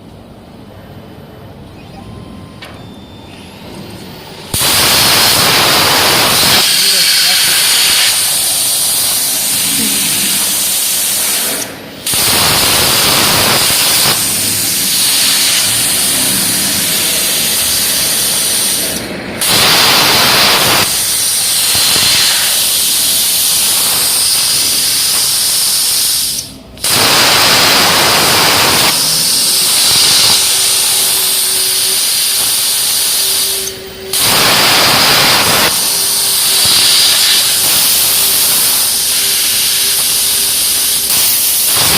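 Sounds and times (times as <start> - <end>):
plasma cutter arc hissing: 4.0 - 41.9.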